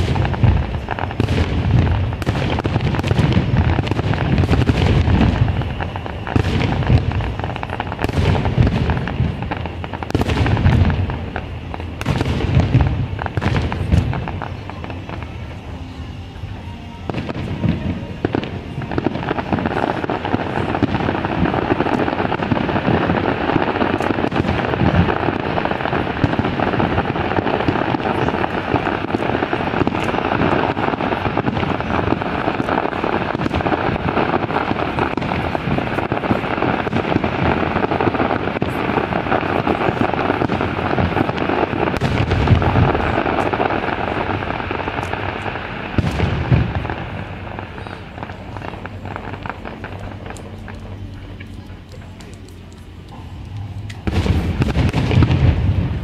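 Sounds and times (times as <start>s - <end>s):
fireworks booms: 0.0s - 56.0s
fireworks crackling and popping: 0.0s - 56.0s.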